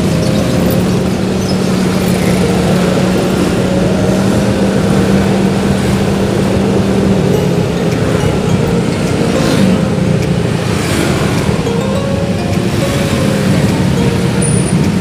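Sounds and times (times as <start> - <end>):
road noise: 0.0 - 15.0
vehicle engine running: 0.0 - 15.0.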